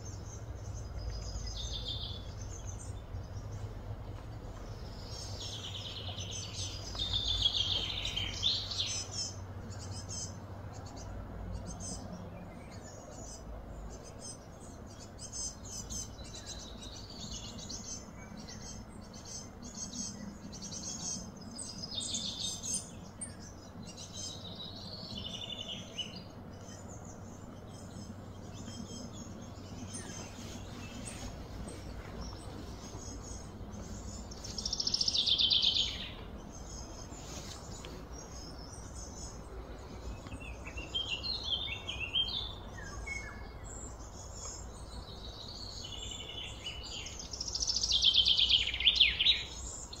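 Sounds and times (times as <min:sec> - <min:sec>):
birds chirping and calling: 0:00.0 - 0:50.0
low background rumble: 0:00.0 - 0:50.0.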